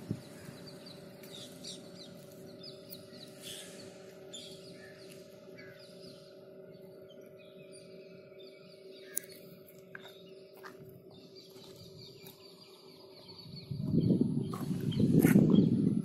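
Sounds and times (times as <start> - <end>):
birds chirping: 0.0 - 16.0
faint steady hum: 0.0 - 16.0.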